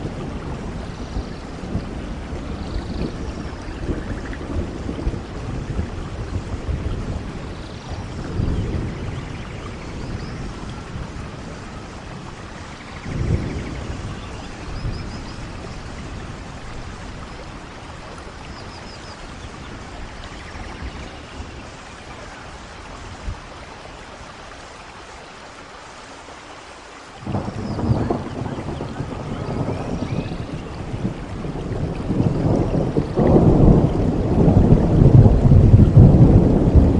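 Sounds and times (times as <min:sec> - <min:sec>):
rolling thunder: 0:00.0 - 0:24.4, 0:27.2 - 0:36.9
heavy rain: 0:00.0 - 0:36.9.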